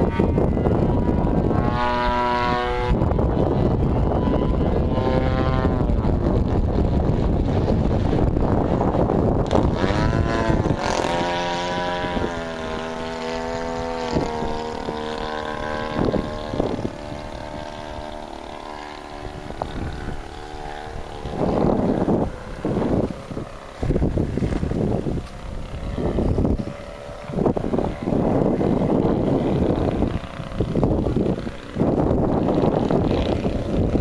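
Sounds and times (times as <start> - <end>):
model plane gas engine: 0.0 - 34.0
wind buffeting microphone: 0.0 - 34.0.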